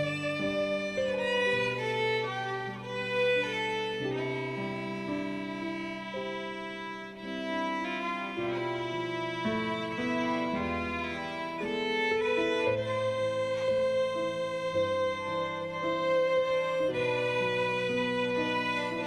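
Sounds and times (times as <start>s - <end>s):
orchestra low accompaniment: 0.0s - 19.0s
solo violin melody: 0.0s - 19.0s.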